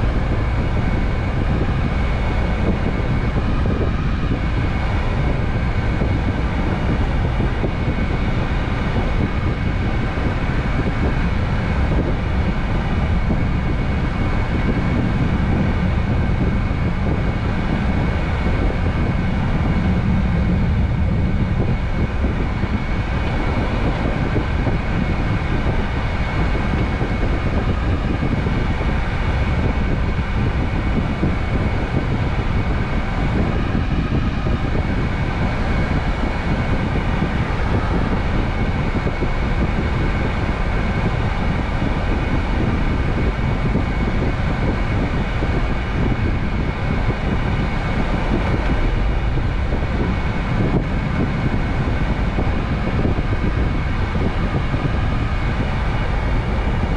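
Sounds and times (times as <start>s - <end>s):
truck engine and road noise: 0.0s - 56.9s.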